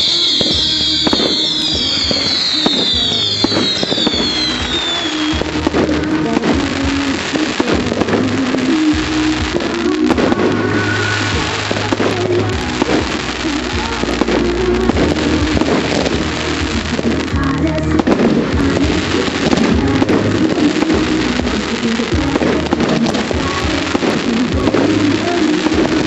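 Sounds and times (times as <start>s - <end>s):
fireworks bangs and crackles: 0.0s - 26.0s
loud music: 0.0s - 26.0s.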